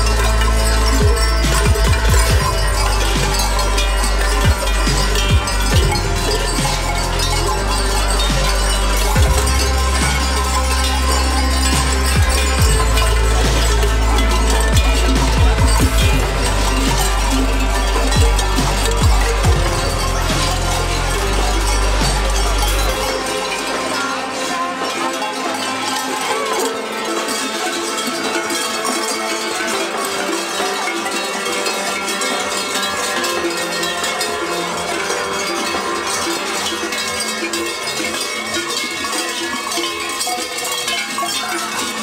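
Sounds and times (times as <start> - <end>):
cowbells clanging: 0.0 - 42.0.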